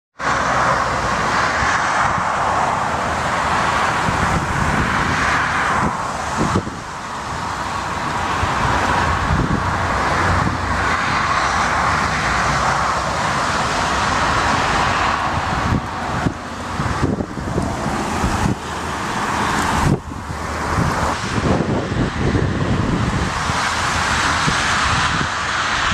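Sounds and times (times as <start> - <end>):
jet engines rushing: 0.2 - 25.9
wind buffeting microphone: 1.0 - 25.9.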